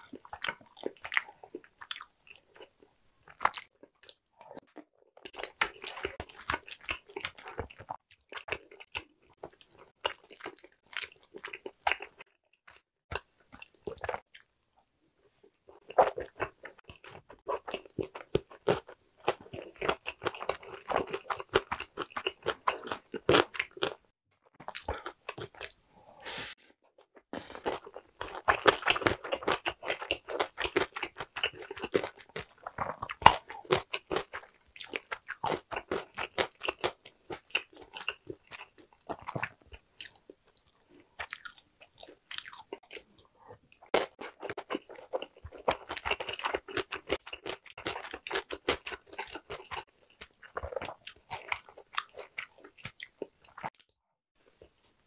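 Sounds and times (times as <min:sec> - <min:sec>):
person chewing: 0:00.0 - 0:26.6, 0:27.2 - 0:54.8.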